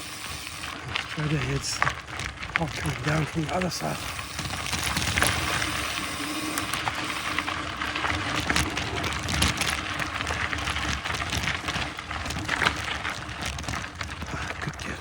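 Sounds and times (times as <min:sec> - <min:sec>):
bike tyres crunching on gravel: 0:00.0 - 0:15.0
small rattles and clicks: 0:00.0 - 0:15.0.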